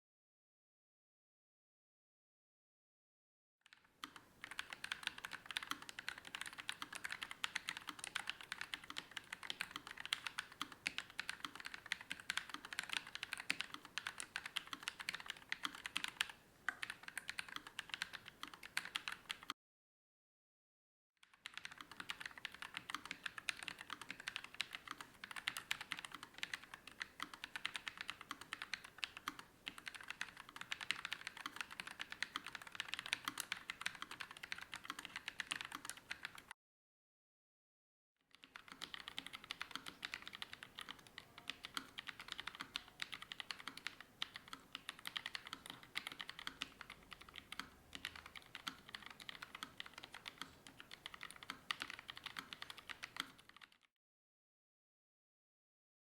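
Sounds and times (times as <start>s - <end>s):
fast typing on keyboard: 3.7s - 19.6s, 21.2s - 36.5s, 38.3s - 53.9s.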